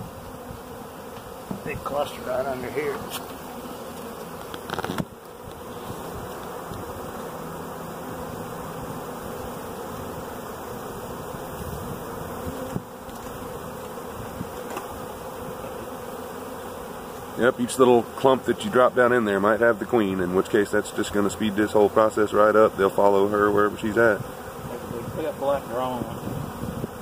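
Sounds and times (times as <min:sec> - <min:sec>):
bee swarm buzzing: 0:00.0 - 0:27.0.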